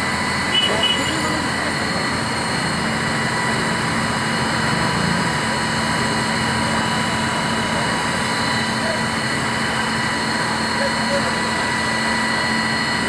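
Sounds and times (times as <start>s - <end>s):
engine drone: 0.0s - 13.0s
high whine: 0.0s - 13.0s.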